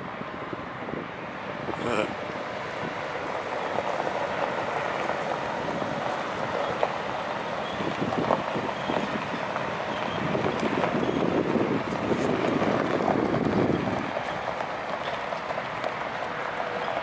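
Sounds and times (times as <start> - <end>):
tyres crunching on gravel: 3.0 - 17.0.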